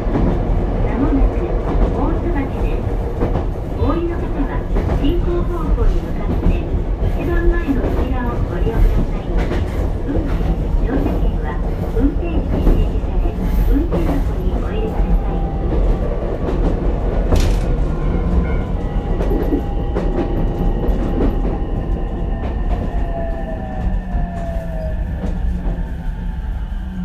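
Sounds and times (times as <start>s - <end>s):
rail joint clicks: 0.0s - 26.3s
train wheels rumbling on rail: 0.0s - 27.0s.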